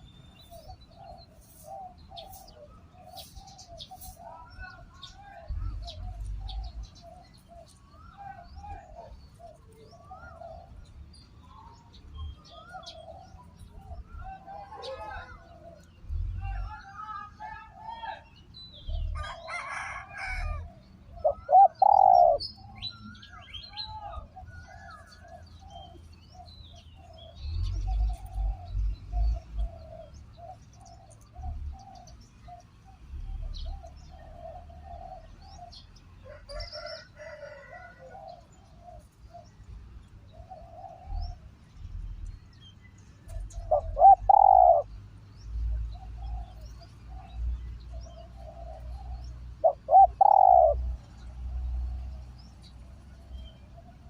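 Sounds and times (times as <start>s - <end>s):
birds chirping: 0.0s - 54.0s
dove cooing: 0.6s - 18.0s, 18.9s - 39.6s, 40.2s - 41.6s, 43.2s - 45.0s, 45.6s - 52.0s.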